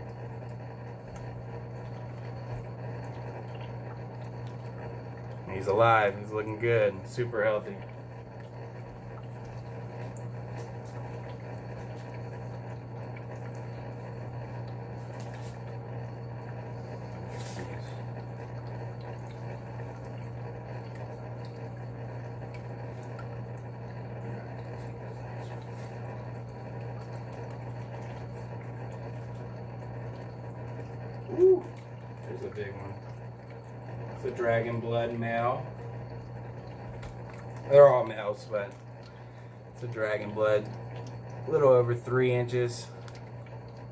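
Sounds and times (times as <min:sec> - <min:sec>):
running water: 0:00.0 - 0:43.9
steady low hum: 0:00.0 - 0:43.9.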